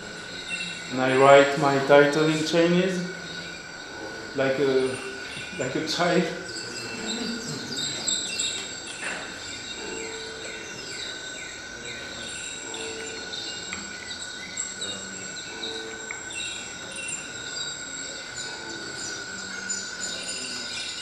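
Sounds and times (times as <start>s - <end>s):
recorded bird chirps: 0.0s - 21.0s
steady high tones: 0.0s - 21.0s.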